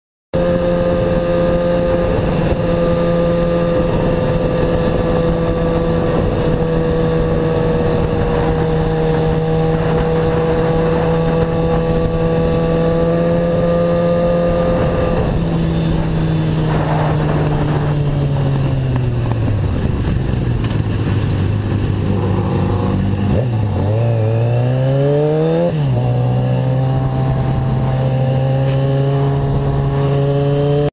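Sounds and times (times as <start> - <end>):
motorcycle engine running: 0.4 - 30.9
wind rush: 0.4 - 30.9.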